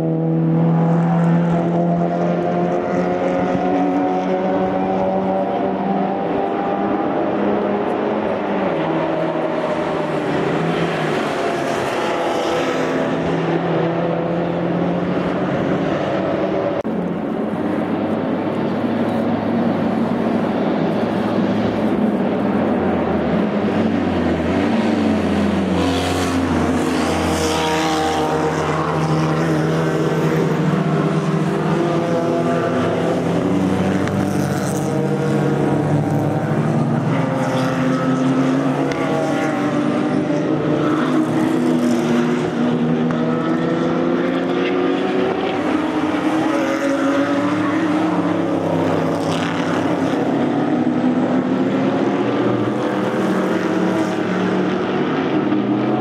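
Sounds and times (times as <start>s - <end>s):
racing car engines at speed: 0.0s - 56.0s.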